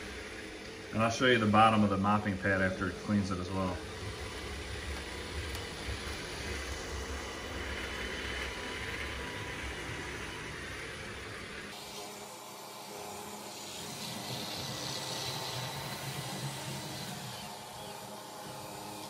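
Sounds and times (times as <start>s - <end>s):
robot vacuum motor whirring: 3.0s - 19.0s.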